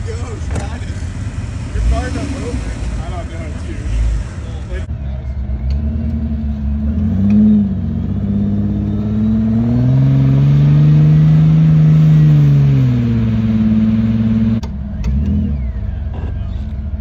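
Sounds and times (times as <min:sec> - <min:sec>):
engine revving under load: 0:00.4 - 0:17.0.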